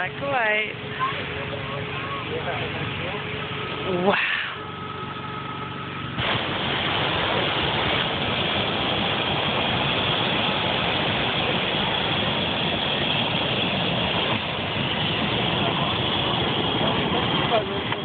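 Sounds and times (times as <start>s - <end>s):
propane burner blast: 0.0s - 18.0s.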